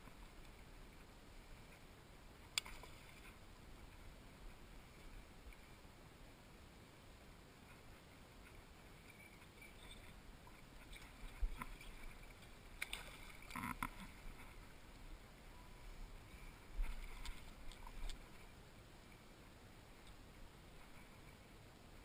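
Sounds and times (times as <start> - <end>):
river water splashing: 0.0 - 22.0.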